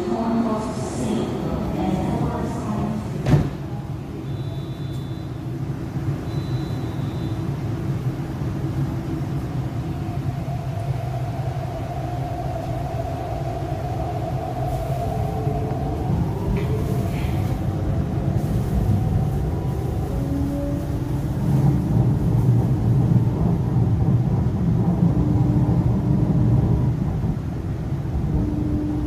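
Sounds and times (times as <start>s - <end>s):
train car low rumble: 0.0s - 29.0s.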